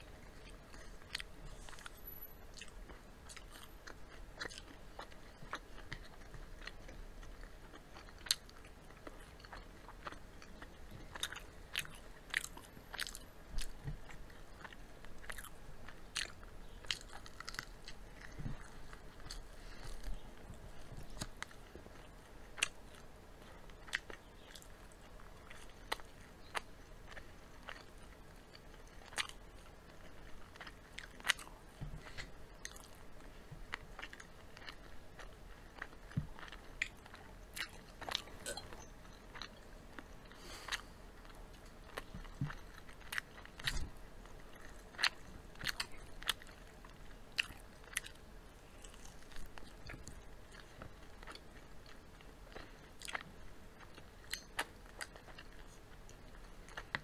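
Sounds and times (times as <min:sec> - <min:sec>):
people chewing crunchy food: 0:00.0 - 0:57.0.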